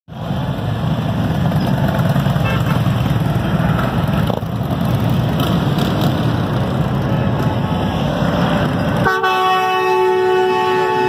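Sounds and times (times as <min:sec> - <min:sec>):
motorcycles riding past slowly: 0:00.1 - 0:09.0.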